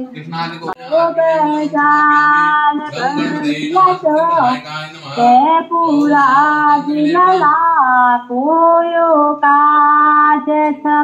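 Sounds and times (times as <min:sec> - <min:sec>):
woman singing over a speaker: 0:00.7 - 0:11.0.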